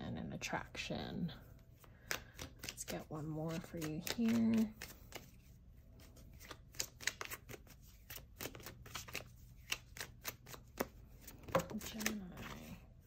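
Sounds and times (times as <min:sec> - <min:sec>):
cards being shuffled: 0:01.8 - 0:12.8.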